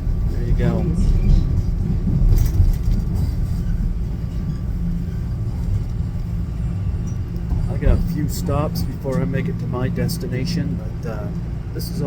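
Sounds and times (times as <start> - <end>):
subway train rumble from inside: 0.0 - 12.0
train clatter: 0.0 - 12.0.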